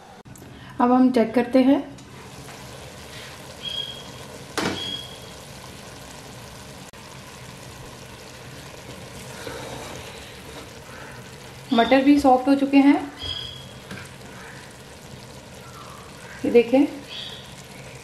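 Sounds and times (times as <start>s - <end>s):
vegetables sizzling in a pot: 0.9s - 18.0s.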